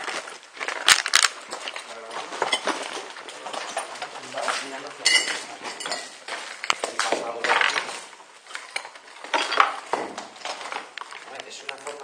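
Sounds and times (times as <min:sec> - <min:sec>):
equipment clinking and rattling: 0:00.0 - 0:12.0.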